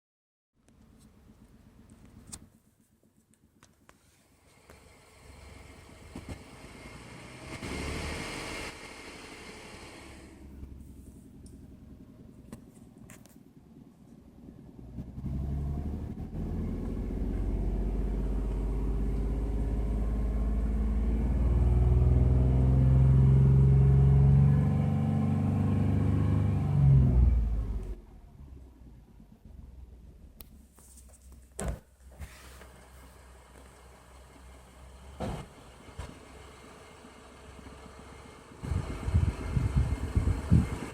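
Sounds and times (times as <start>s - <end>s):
engine running: 0.7s - 40.9s.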